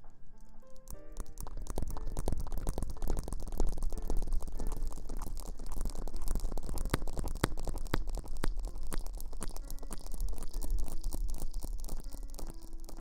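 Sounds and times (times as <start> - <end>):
faint musical tones: 0.0 - 13.0
rustling and crackling on microphone: 0.0 - 13.0.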